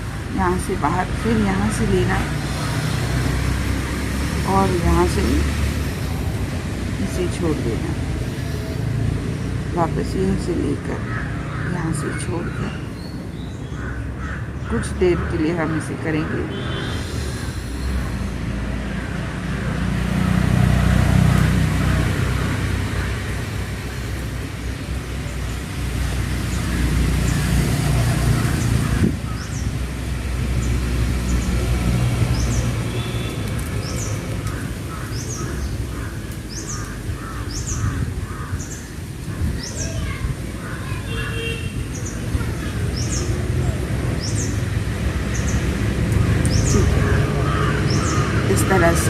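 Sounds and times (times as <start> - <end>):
low traffic rumble: 0.0 - 49.0.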